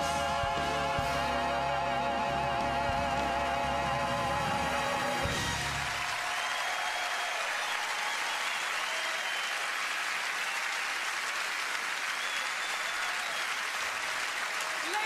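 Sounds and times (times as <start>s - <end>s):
crowd cheering: 0.0s - 15.0s
audience applauding: 2.3s - 15.0s.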